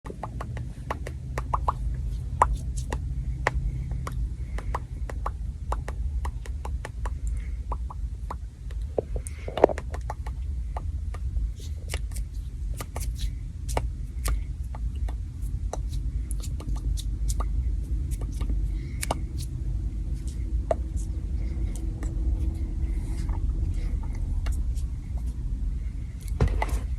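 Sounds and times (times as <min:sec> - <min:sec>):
steady low hum: 0:00.1 - 0:26.9.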